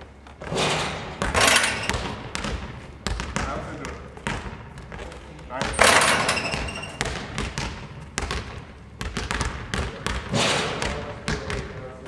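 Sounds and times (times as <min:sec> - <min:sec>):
basketballs bouncing on hall floor: 0:00.0 - 0:12.0.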